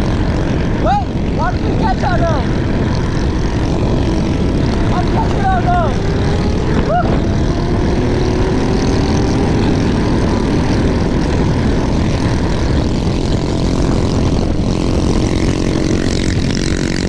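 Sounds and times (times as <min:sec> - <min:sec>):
engine drone: 0:00.0 - 0:17.0
wind rushing over microphone: 0:00.0 - 0:17.0.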